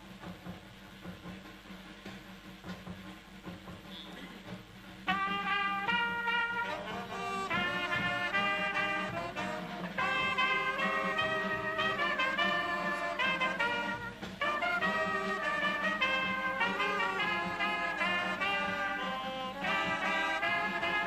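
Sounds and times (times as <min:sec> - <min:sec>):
brass band playing slow held notes: 0:03.8 - 0:21.0.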